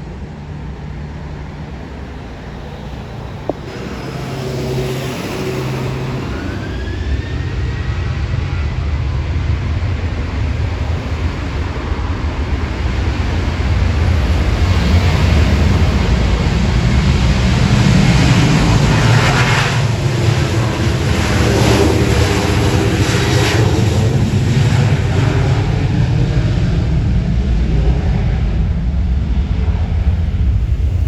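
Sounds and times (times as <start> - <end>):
faint engine whine: 0.0 - 31.0
jet engines rumbling: 0.0 - 31.0.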